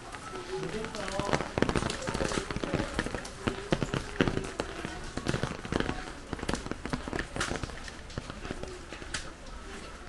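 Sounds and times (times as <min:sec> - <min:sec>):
sharp taps and cracks: 0:00.1 - 0:09.6.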